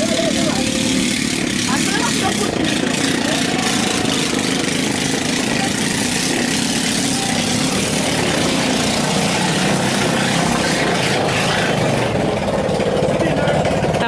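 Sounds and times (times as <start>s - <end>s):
quad bike engines idling: 0.0s - 14.0s.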